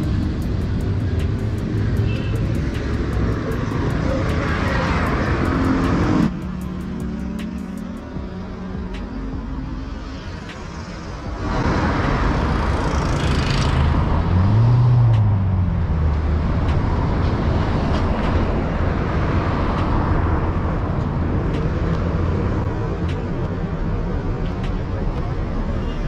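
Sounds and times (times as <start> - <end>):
city traffic passing: 0.0 - 26.0
heavy vehicle engine: 0.0 - 26.0.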